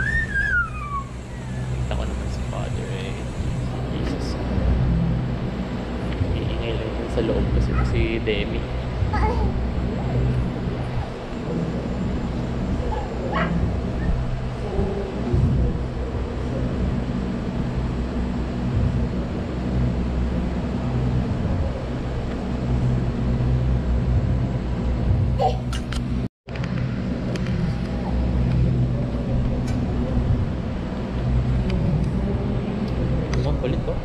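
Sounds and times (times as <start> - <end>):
low motor rumble: 0.0 - 34.0.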